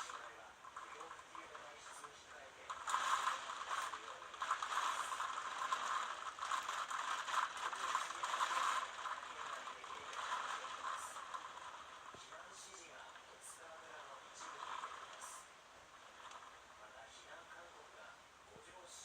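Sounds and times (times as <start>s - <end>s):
rapid rattling: 0.0s - 17.2s.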